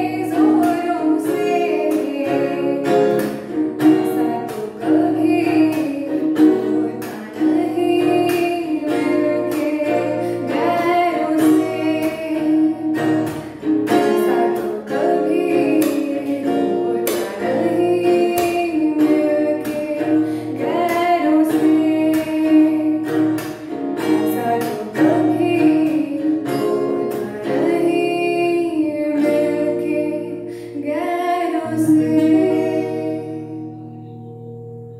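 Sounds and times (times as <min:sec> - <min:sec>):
girl singing: 0:00.0 - 0:34.9
plucked guitar: 0:00.0 - 0:34.9.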